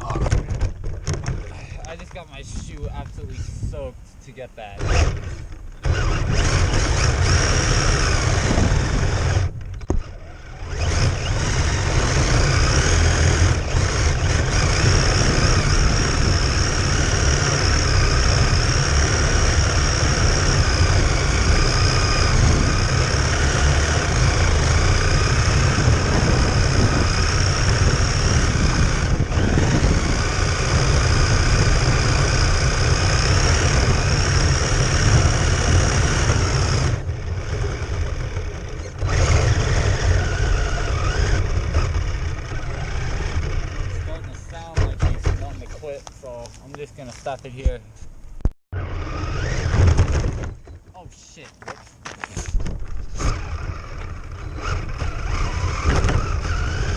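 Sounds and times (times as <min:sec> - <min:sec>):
toy car motor whining: 0:04.6 - 0:46.8, 0:48.8 - 0:50.8, 0:52.3 - 0:56.9.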